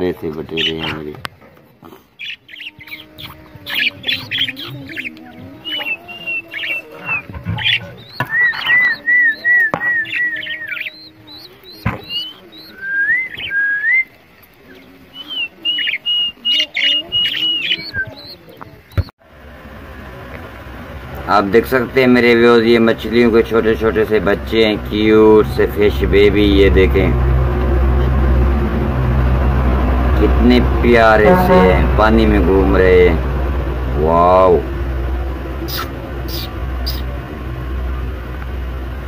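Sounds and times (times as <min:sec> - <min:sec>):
caged birds chirping: 0:00.0 - 0:19.1, 0:20.3 - 0:39.0.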